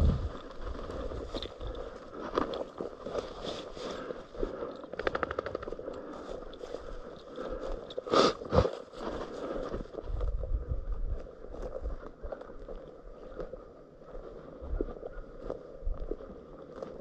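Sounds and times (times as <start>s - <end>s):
footsteps through dry vegetation: 0.0s - 17.0s.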